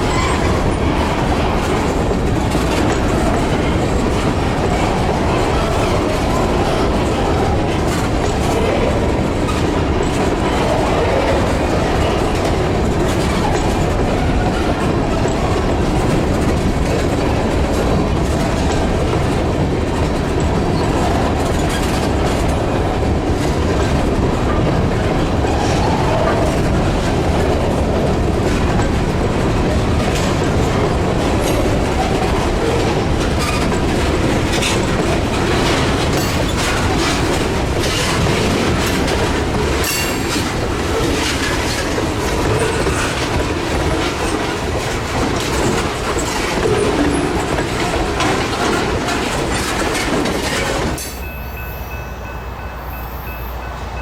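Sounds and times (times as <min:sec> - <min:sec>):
wheels clicking over rail joints: 0:00.0 - 0:53.3
train cars rumbling past: 0:00.0 - 0:54.0.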